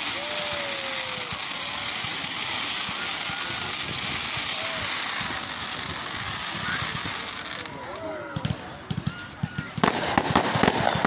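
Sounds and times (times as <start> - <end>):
fireworks hissing and crackling: 0.0 - 11.0.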